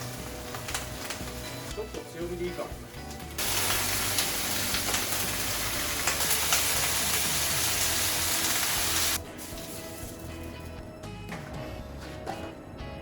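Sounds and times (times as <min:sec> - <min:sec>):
meat sizzling in hot oil: 0:00.0 - 0:10.7.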